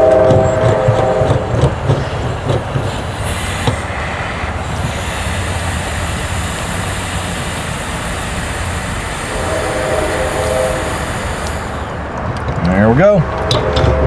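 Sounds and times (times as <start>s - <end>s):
gas hissing from a line: 0.0s - 14.0s.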